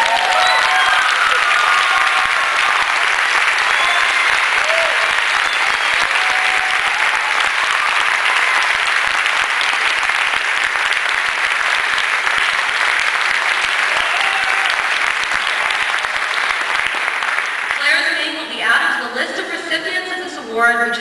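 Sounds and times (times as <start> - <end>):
audience applauding: 0.0 - 18.4.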